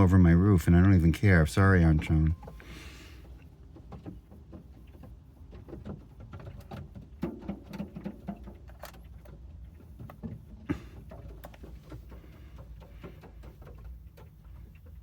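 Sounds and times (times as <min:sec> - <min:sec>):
bird feet tapping on car roof: 0:02.3 - 0:15.0.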